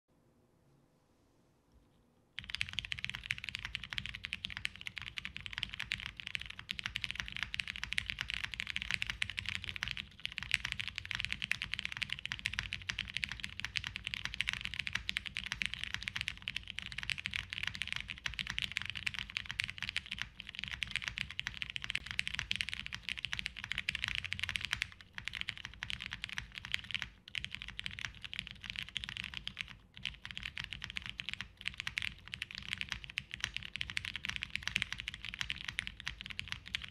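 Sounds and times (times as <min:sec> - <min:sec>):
fast mechanical keyboard typing: 0:02.4 - 0:36.9.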